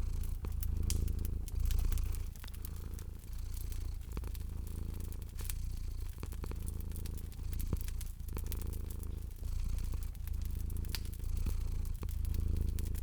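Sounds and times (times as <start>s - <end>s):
cat purring: 0.0s - 13.0s
fire crackling and popping: 0.0s - 13.0s.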